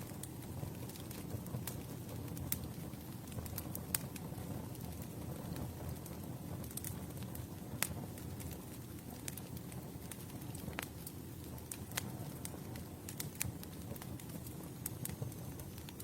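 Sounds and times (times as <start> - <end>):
burning wood crackling and popping: 0.0 - 16.0
rumble of flames: 0.0 - 16.0.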